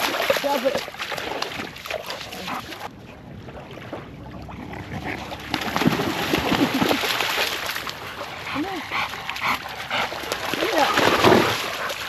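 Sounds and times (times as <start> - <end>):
dogs splashing in water: 0.0 - 2.9, 4.6 - 12.0.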